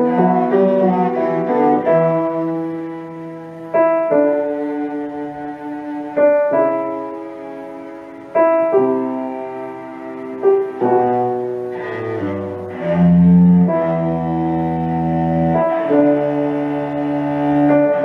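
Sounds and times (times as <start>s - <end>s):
cello held low notes: 0.0s - 18.0s
piano chords ringing: 0.0s - 18.0s.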